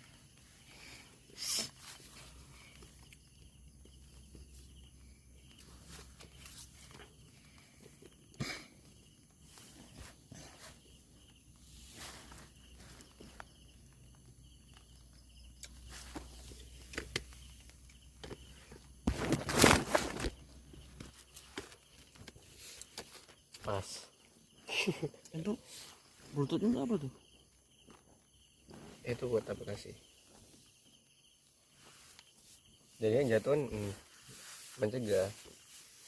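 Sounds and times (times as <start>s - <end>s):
faint rustles and clicks: 0.0s - 24.6s, 27.2s - 36.0s.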